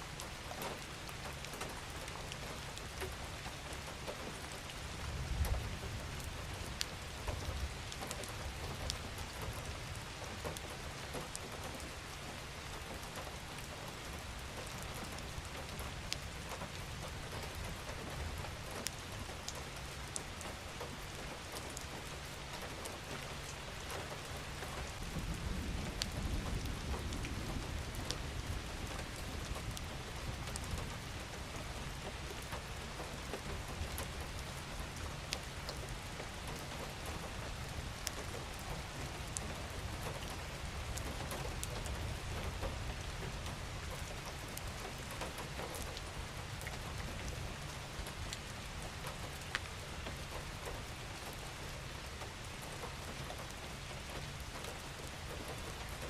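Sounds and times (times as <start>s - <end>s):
rain falling: 0.0s - 56.0s
raindrops ticking on a surface: 0.0s - 56.0s.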